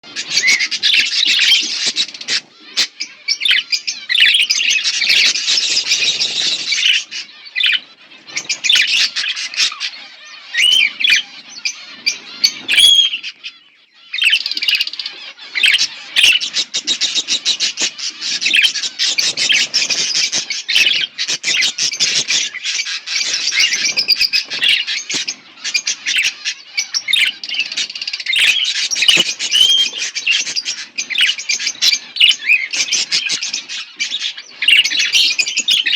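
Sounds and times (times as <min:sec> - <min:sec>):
budgerigars chirping and chattering: 0:00.0 - 0:35.9.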